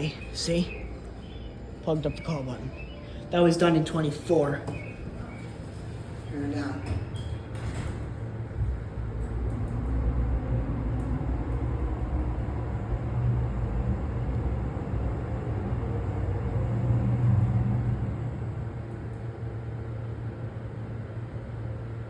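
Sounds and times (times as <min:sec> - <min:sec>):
elevator hum and rumble: 0:00.0 - 0:22.0.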